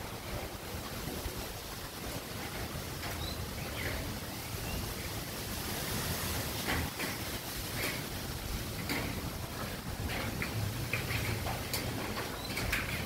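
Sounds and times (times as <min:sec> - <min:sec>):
rain falling: 0:00.0 - 0:13.0
wind gusting through trees: 0:00.0 - 0:13.0
wind rumble on microphone: 0:00.0 - 0:13.0.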